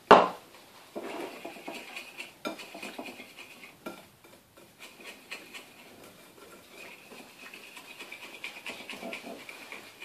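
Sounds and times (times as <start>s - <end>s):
whisk scraping and clicking bowl: 1.0s - 10.0s.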